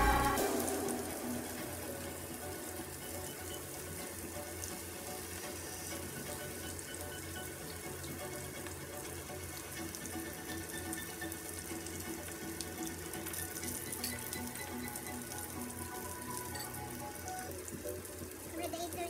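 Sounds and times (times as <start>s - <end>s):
meat and seafood sizzling on grill: 0.0s - 19.0s.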